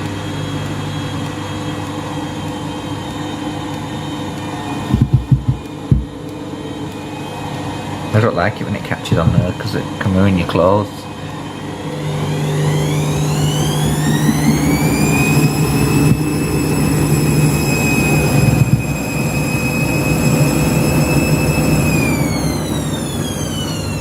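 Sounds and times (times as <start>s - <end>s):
washing machine drum spinning: 0.0s - 24.0s.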